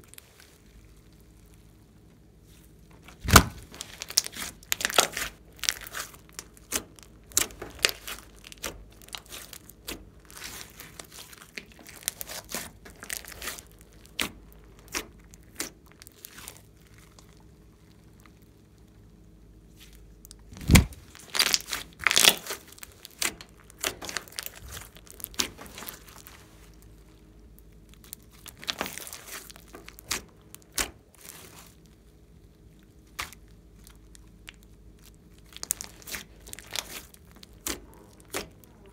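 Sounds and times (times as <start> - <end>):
sticky slime crackling and popping: 2.9 - 38.9.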